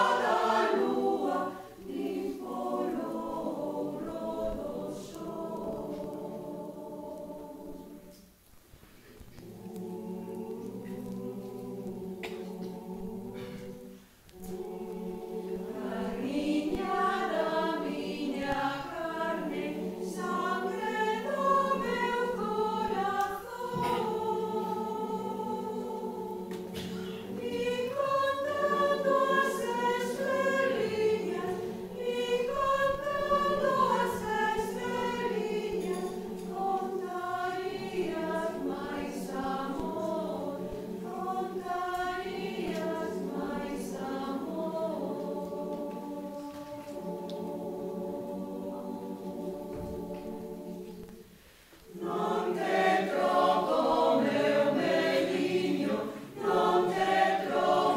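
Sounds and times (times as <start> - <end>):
mixed choir singing lullaby: 0.0 - 57.9.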